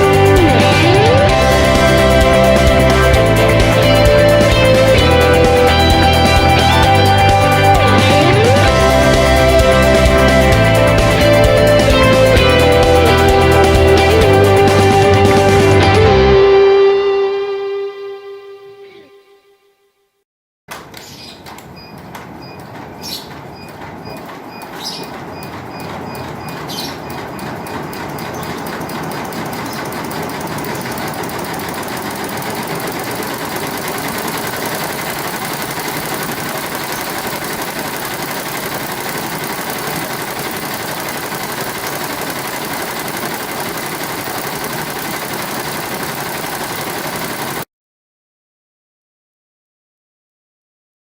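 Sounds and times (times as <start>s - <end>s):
embroidery machine stitching: 0.0s - 16.0s, 21.5s - 47.7s.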